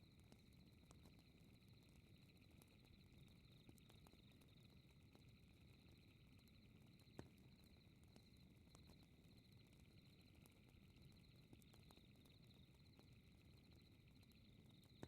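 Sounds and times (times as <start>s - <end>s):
night insects chirring: 0.6s - 15.0s.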